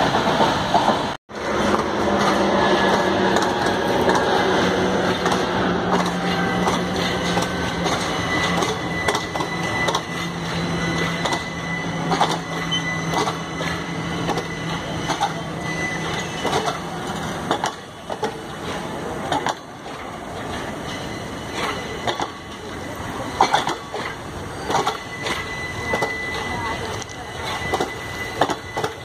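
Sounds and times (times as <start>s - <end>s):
train wheels clicking over rail joints: 0.0s - 29.0s.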